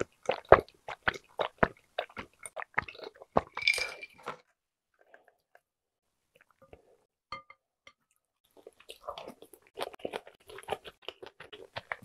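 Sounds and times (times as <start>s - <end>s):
person chewing food: 0.0s - 7.1s, 8.1s - 12.0s.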